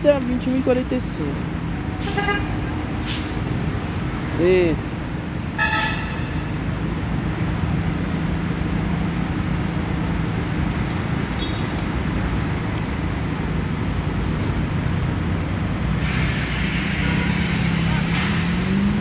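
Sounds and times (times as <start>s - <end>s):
traffic engines idling: 0.0s - 19.0s.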